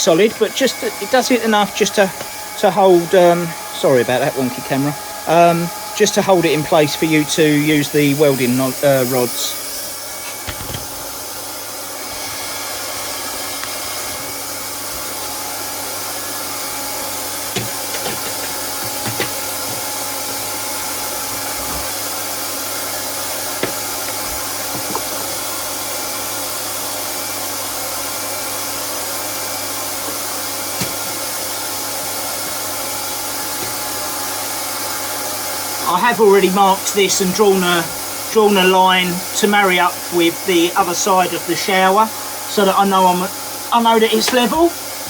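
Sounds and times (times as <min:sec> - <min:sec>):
hot-air welding gun running: 0:00.0 - 0:45.0.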